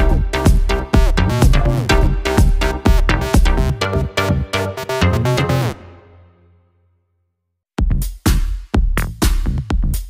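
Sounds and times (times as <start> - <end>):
electronic music with steady beat: 0.0 - 6.2, 7.8 - 10.0.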